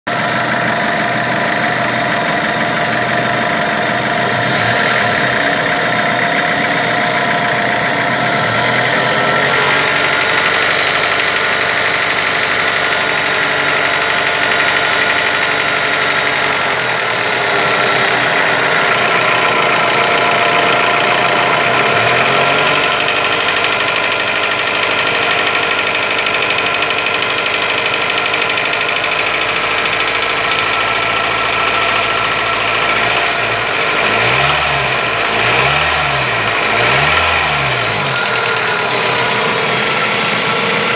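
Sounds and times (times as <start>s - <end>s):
car engine idling and revving: 0.0s - 40.9s
engine knocking: 0.0s - 40.9s.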